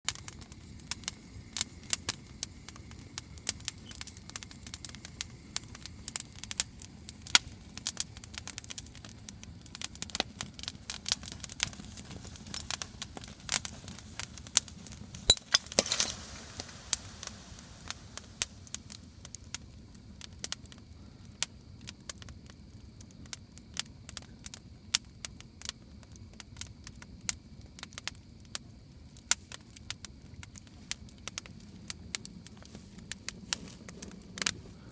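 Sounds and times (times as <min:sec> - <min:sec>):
campfire crackling and popping: 0:00.1 - 0:34.9
fire hiss: 0:00.1 - 0:34.9.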